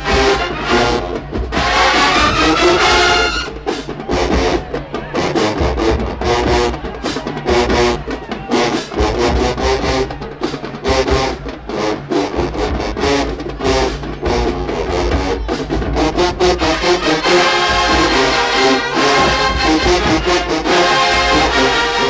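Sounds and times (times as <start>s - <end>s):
drums steady beat: 0.0s - 22.0s
marching band brass: 0.0s - 22.0s.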